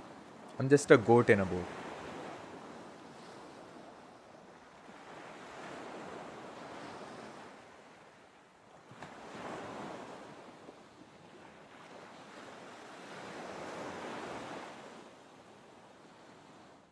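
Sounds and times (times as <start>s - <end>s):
ocean waves washing in: 0.0s - 8.4s, 9.1s - 16.9s.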